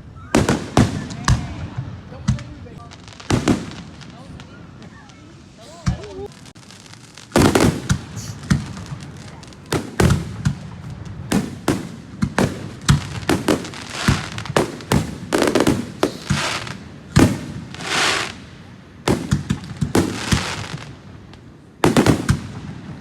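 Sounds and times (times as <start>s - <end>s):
fireworks crackling hiss: 0.0s - 23.0s
fireworks bangs and pops: 0.2s - 23.0s.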